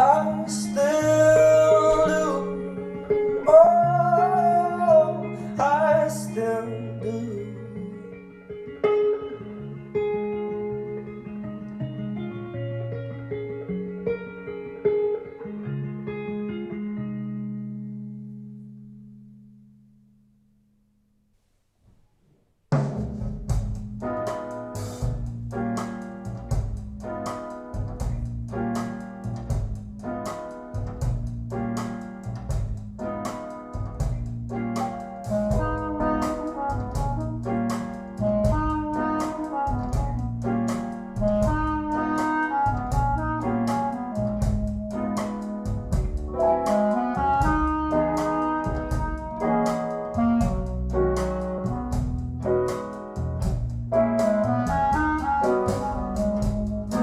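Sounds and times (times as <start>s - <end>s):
instrumental jazz: 0.0s - 19.8s, 22.7s - 57.0s.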